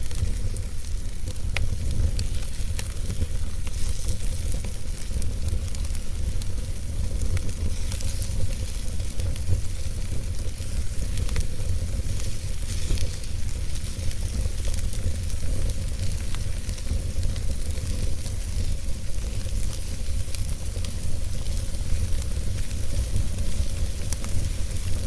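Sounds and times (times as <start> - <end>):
fire crackles and pops: 0.0 - 25.0
wood fire rumbling: 0.0 - 25.0.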